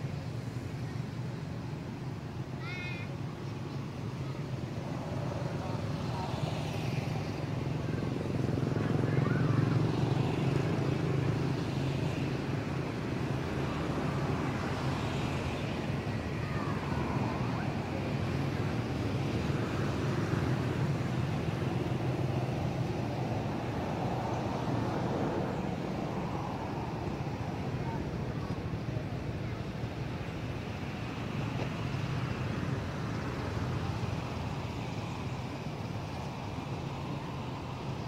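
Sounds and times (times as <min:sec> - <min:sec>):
vehicle engines humming: 0:00.0 - 0:38.0.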